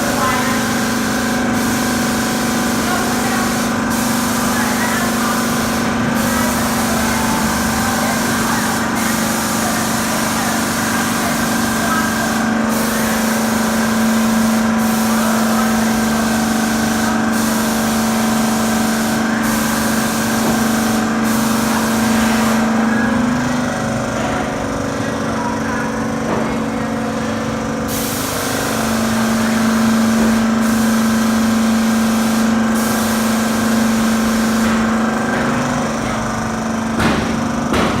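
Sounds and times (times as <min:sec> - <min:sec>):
loud spraying hiss: 0:00.0 - 0:23.2, 0:27.9 - 0:35.1
sprayer motor hum: 0:00.0 - 0:38.0.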